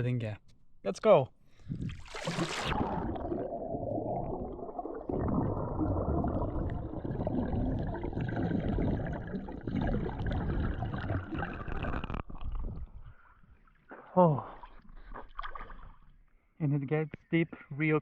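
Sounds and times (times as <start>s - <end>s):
water sloshing and gurgling: 1.5s - 16.3s.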